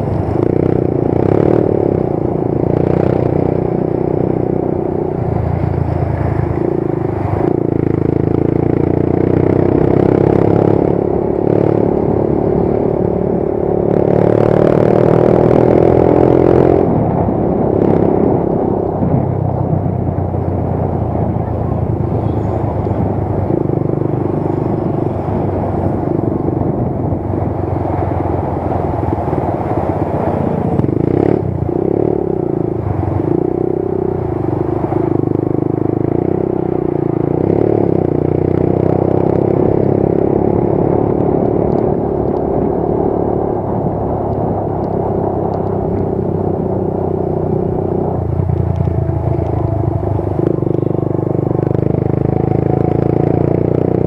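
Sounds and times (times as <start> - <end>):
motorcycle engine running: 0.0 - 54.0
road noise: 0.0 - 54.0
wind noise: 0.0 - 54.0.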